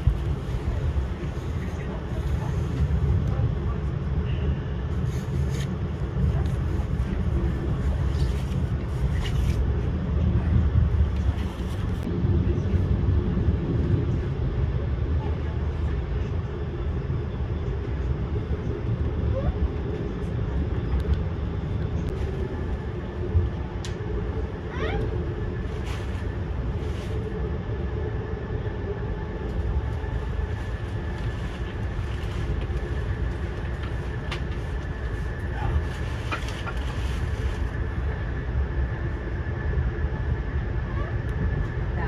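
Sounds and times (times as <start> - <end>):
train low rumble: 0.0 - 42.0.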